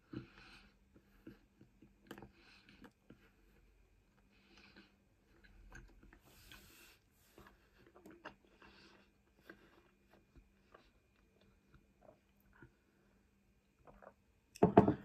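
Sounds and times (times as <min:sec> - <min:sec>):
person chewing food: 0:00.0 - 0:14.3.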